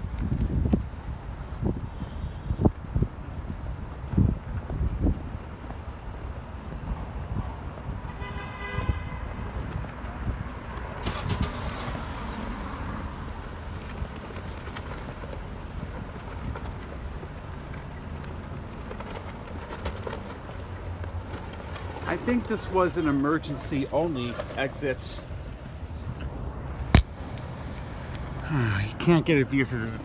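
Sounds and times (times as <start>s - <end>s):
passing vehicles rumbling: 0.0s - 30.0s.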